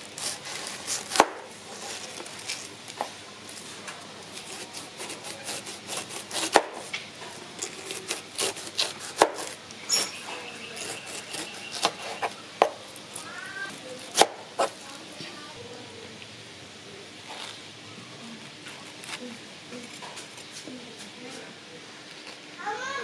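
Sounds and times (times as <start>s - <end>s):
knife cutting pineapple rind: 0.0s - 15.0s, 18.2s - 22.5s.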